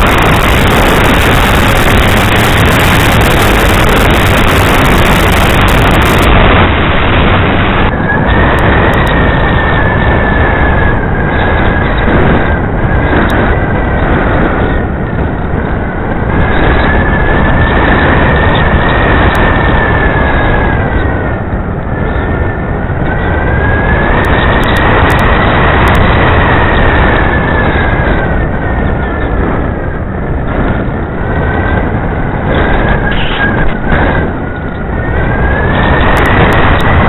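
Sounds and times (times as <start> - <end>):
wind rush: 0.0 - 37.0.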